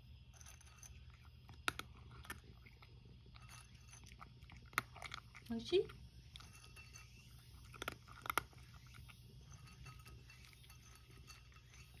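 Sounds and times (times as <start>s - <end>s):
cat crunching dry kibble: 0.4s - 12.0s.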